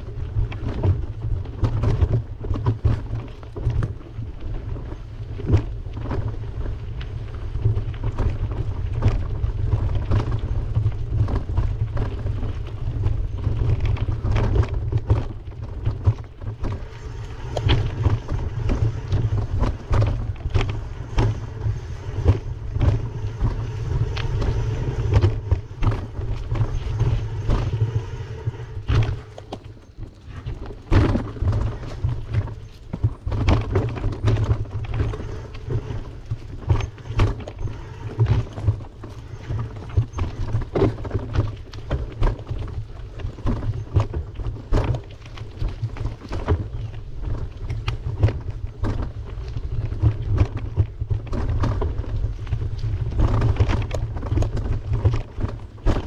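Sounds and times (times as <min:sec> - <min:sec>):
wind rumble on microphone: 0:00.0 - 0:56.0
bicycle rattling and knocking: 0:07.5 - 0:56.0.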